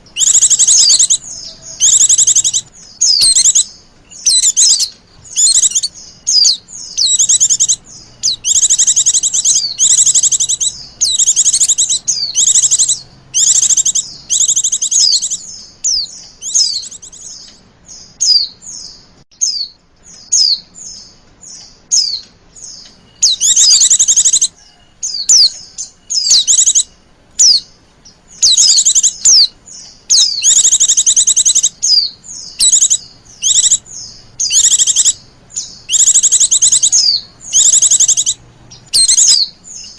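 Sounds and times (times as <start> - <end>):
bird trilling chatter: 0.0 - 17.6, 22.0 - 39.9.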